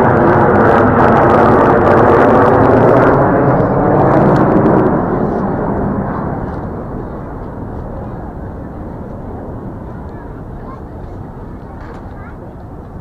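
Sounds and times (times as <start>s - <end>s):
military jets passing overhead: 0.0s - 13.0s.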